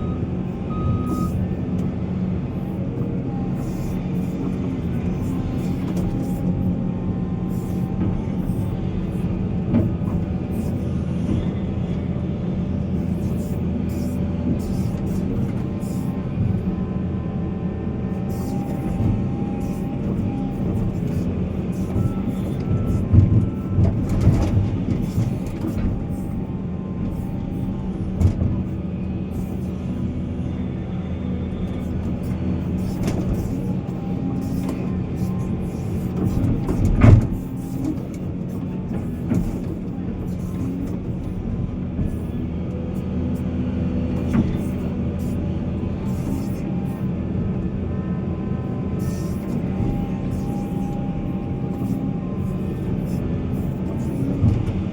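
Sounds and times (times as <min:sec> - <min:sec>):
diesel engine droning: 0:00.0 - 0:54.9.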